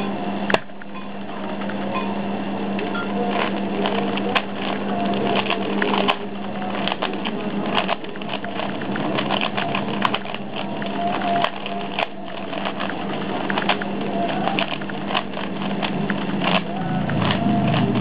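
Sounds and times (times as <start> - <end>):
steady low hum: 0.0 - 18.0
puzzle cube layers clicking: 3.0 - 18.0.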